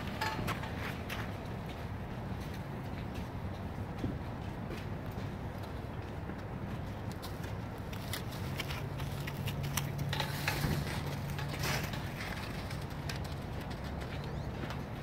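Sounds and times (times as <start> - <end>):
hooves thudding on gravel: 0.0 - 15.0.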